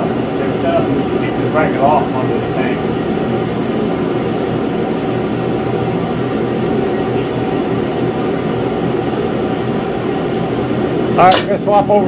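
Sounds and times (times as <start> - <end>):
shop heater roaring: 0.0 - 12.0.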